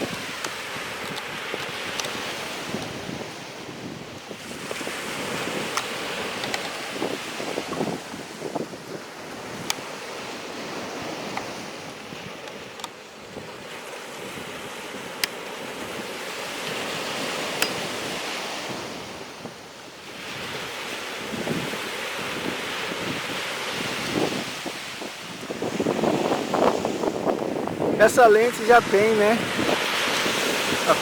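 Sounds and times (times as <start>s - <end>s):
surf washing on beach: 0.0s - 31.0s.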